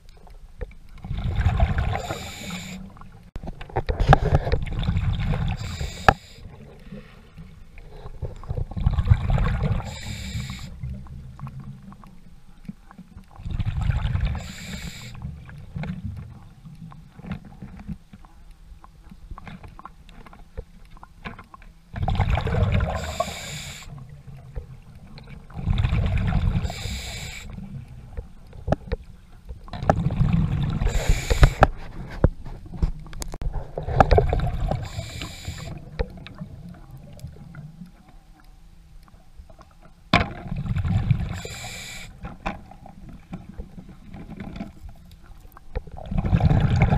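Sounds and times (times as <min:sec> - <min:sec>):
underwater exhaled bubbles: 0:00.9 - 0:18.0, 0:19.4 - 0:46.9.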